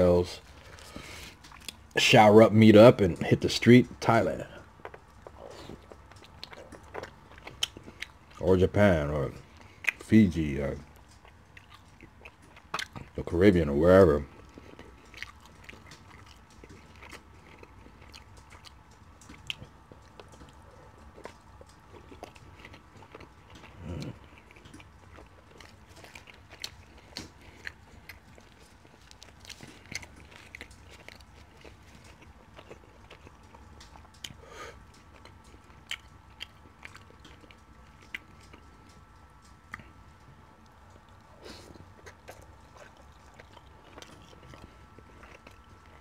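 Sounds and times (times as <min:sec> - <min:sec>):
chewing and lip smacks: 0:00.0 - 0:02.2, 0:03.0 - 0:46.0.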